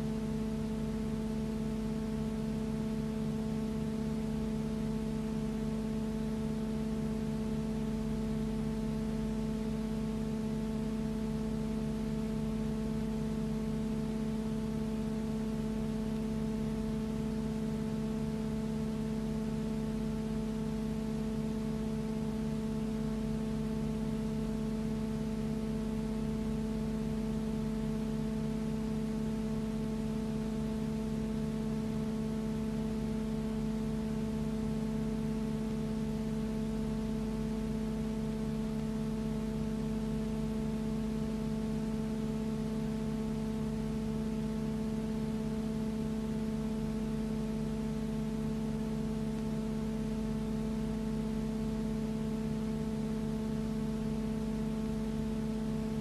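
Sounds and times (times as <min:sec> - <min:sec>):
constant hiss: 0:00.0 - 0:56.0
low steady hum: 0:00.0 - 0:56.0.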